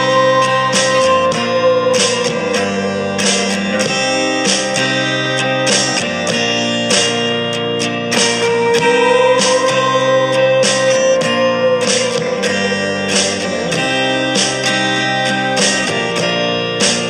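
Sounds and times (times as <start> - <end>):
instrumental music with plucked notes: 0.0 - 17.0.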